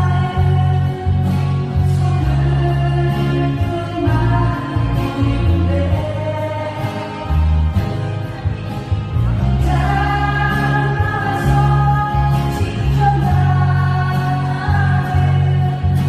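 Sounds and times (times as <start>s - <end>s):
instrumental accompaniment with bass: 0.0s - 16.0s.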